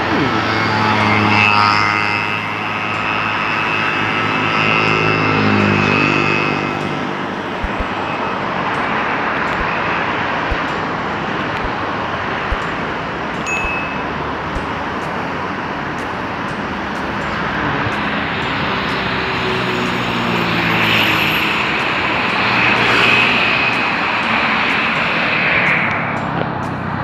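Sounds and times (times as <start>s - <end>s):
engine passing close: 0.0s - 27.0s
road traffic: 0.0s - 27.0s.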